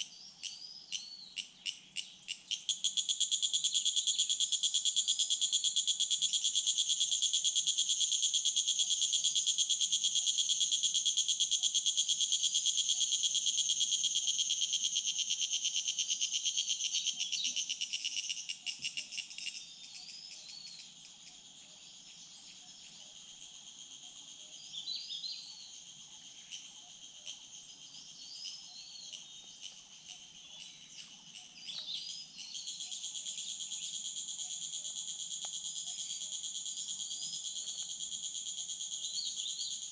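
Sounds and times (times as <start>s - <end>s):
insects pulsing high trill: 1.4s - 39.9s.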